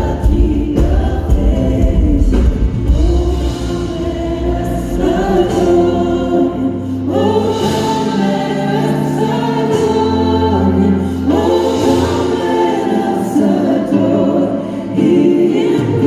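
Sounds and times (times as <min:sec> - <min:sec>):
choir singing gospel song: 0:00.0 - 0:16.0
sustained bass accompaniment: 0:00.0 - 0:16.0.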